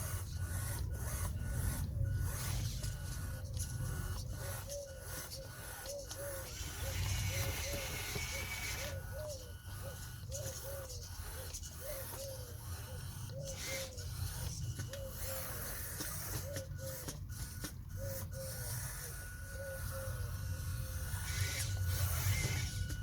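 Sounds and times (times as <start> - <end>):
small electric motors humming: 0.0 - 23.0.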